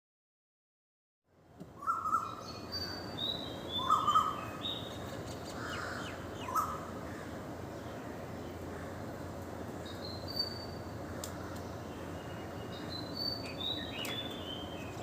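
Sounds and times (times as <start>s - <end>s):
steady background hiss: 1.3s - 15.0s
low bird call: 1.8s - 15.0s.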